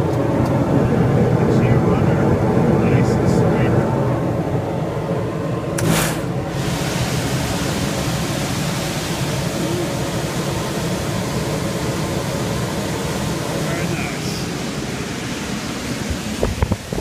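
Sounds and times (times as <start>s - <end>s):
low machinery hum: 0.0s - 17.0s
steady rushing noise: 0.0s - 17.0s.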